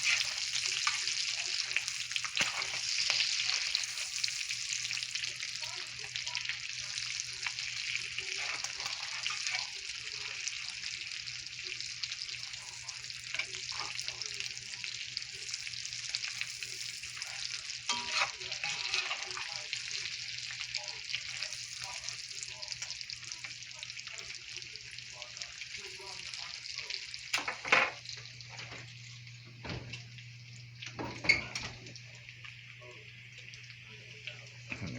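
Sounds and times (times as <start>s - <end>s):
food sizzling in a frying pan: 0.0s - 34.9s.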